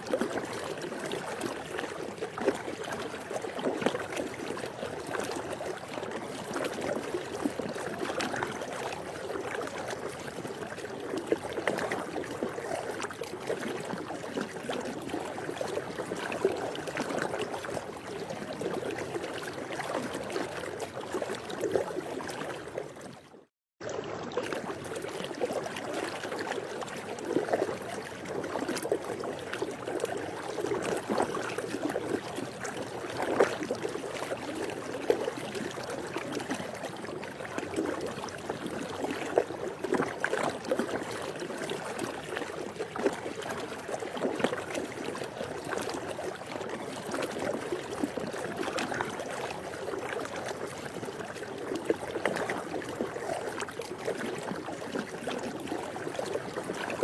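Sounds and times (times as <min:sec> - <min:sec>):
pool water lapping and sloshing: 0:00.0 - 0:57.0
small water splashes: 0:00.0 - 0:57.0.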